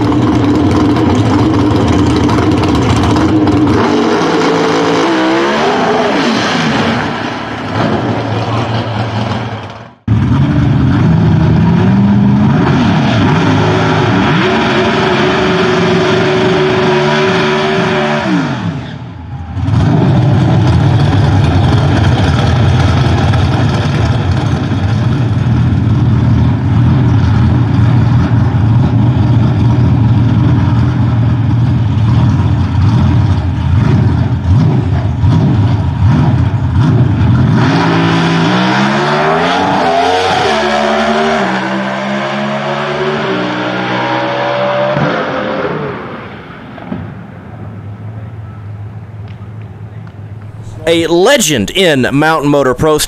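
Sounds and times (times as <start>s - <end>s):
drag car engine revving: 0.0s - 47.1s.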